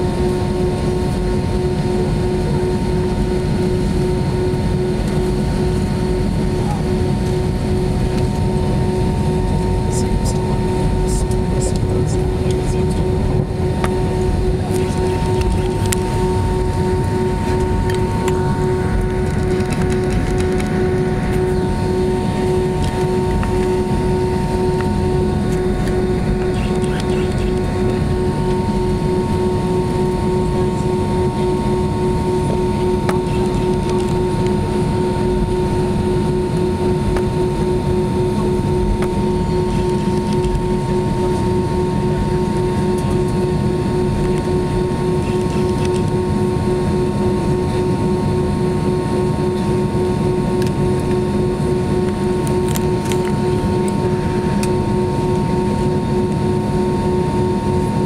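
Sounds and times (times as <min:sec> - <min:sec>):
aircraft engines idling: 0:00.0 - 0:58.0
low cabin rumble: 0:00.0 - 0:58.0.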